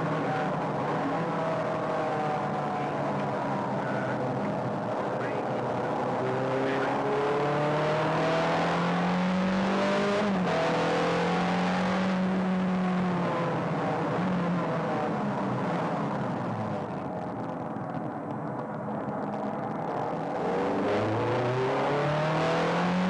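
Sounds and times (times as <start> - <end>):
sports car engine accelerating: 0.0 - 17.1, 19.3 - 23.0.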